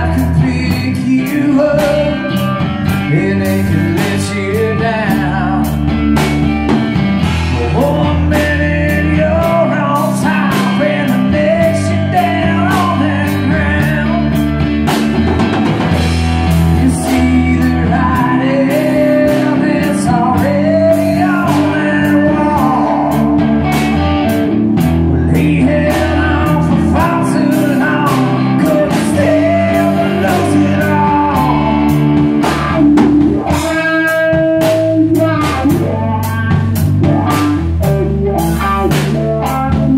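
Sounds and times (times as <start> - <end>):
person singing: 0.0 - 6.3, 7.2 - 14.7, 15.9 - 39.9
blues-rock band playing: 0.0 - 39.9.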